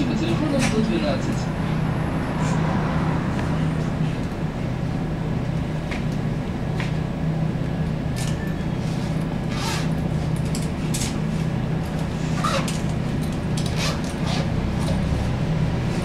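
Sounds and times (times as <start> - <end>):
trolleybus cabin hum: 0.0 - 16.0.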